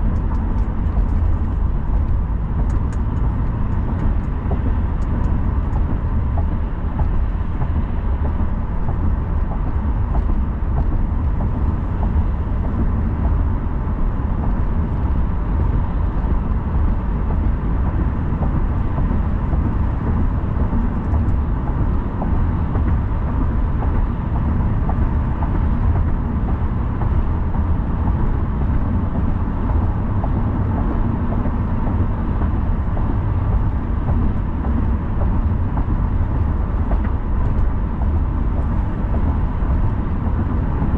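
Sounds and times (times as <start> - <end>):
car engine hum: 0.0 - 40.9
car tyre road rumble: 0.0 - 40.9.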